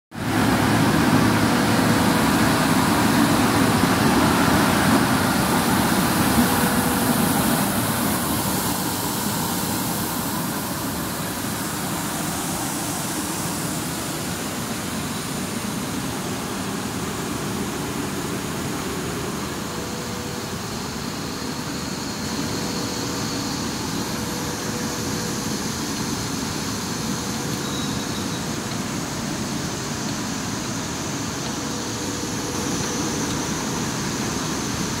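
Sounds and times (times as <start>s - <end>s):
faint hum tone: 0.2s - 35.0s
printing press whirring: 0.2s - 35.0s.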